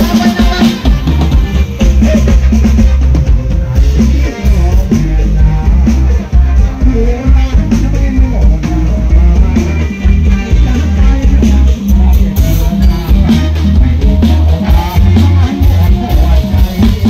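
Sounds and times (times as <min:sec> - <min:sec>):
drum kit with cymbals: 0:00.0 - 0:17.0
heavy bass line: 0:00.0 - 0:17.0.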